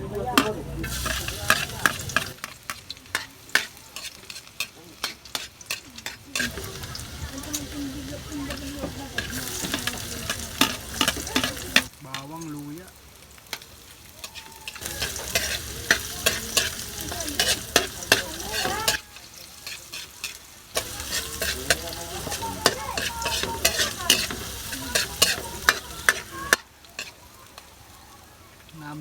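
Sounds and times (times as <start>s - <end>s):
garlic sizzling in oil: 0.0s - 29.0s
spatula scraping a pan: 0.4s - 11.9s, 14.2s - 27.7s.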